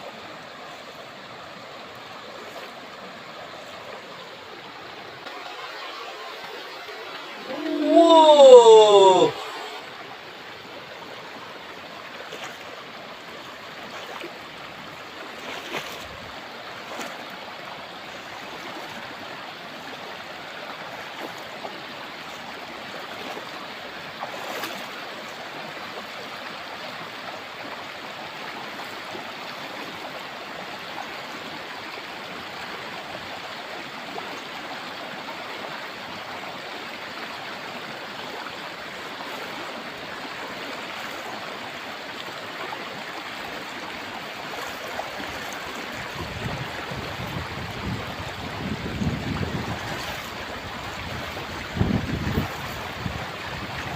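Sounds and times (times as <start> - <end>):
river running over rocks: 0.0 - 53.9.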